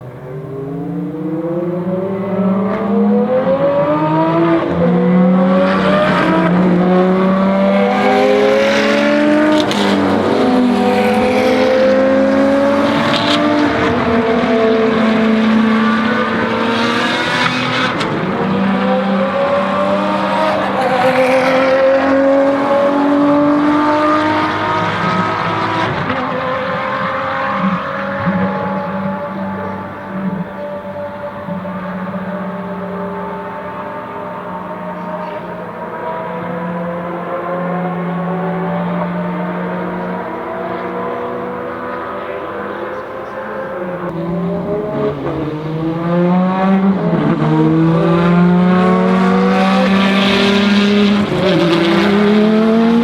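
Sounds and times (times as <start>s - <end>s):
racing engine revving: 0.0s - 53.0s.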